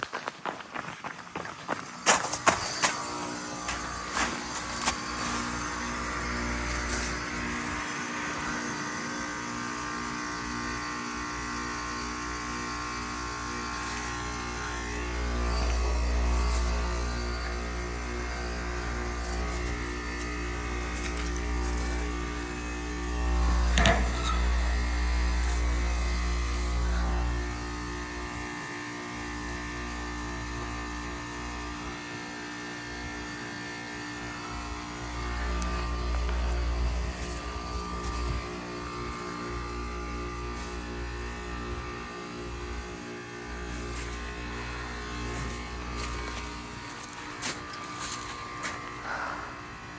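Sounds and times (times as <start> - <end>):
heat pump humming: 1.4 - 49.9.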